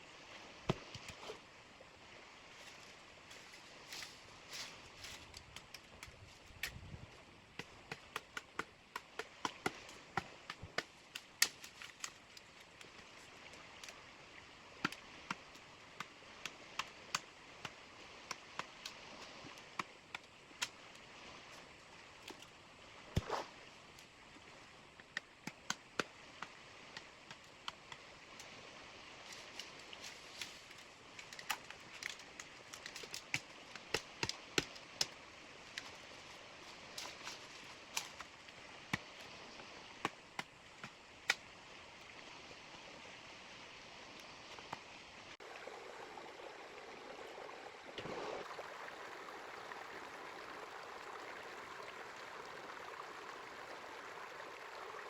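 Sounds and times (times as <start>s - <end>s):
small river flowing: 0.0s - 55.0s.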